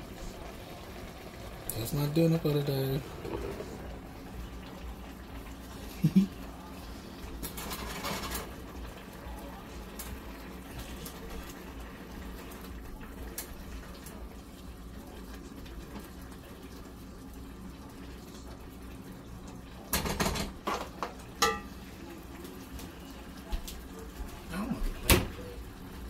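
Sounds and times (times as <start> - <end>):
pot bubbling at the boil: 0.0 - 26.0.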